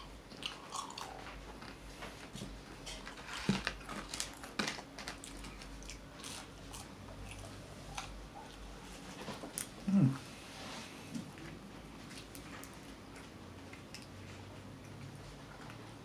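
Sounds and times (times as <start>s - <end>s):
chewing crunchy food: 0.0s - 9.8s, 11.2s - 16.0s.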